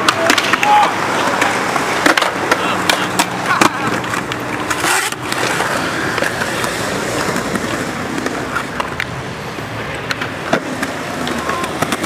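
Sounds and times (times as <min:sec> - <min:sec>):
skateboard wheels rolling on concrete: 0:00.0 - 0:12.0.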